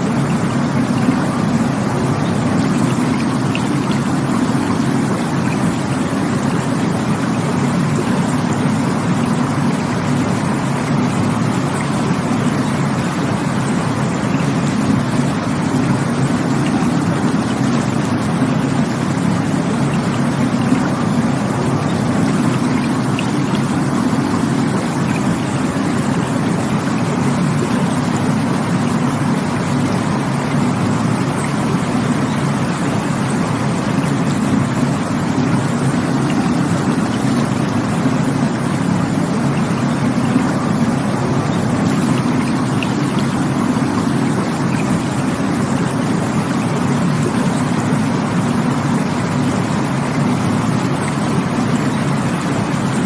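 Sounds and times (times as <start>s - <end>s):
rushing water: 0.0s - 53.0s.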